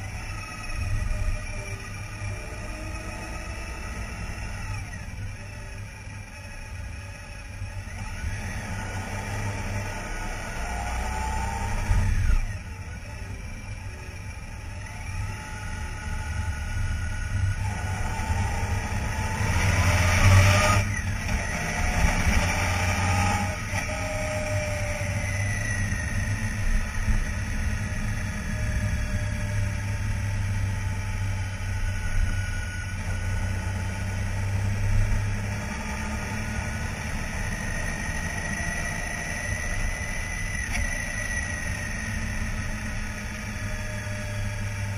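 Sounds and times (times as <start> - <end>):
motorcycle engine running: 0.0 - 44.9
road and wind noise: 0.0 - 44.9.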